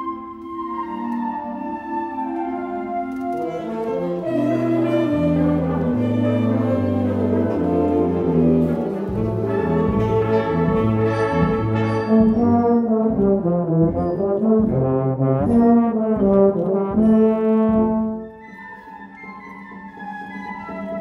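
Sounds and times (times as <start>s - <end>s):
brass ensemble music: 0.0s - 21.0s.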